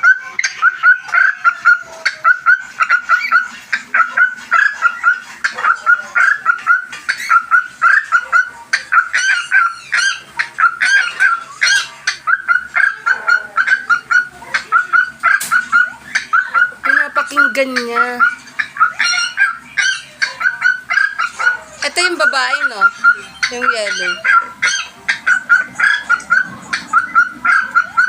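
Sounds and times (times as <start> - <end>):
cockatiels chirping: 0.0 - 28.0.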